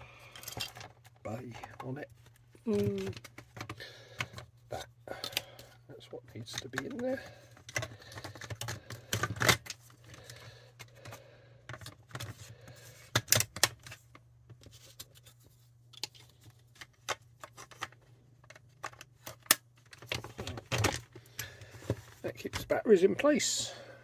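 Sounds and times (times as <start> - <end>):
plastic parts clicking and clattering: 0.2 - 4.6, 5.2 - 22.8.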